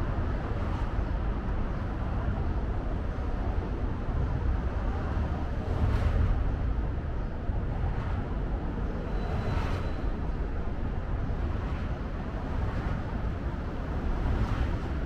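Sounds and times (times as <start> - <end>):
outdoor city ambience: 0.0 - 15.0
wind rumbling on microphone: 0.0 - 15.0.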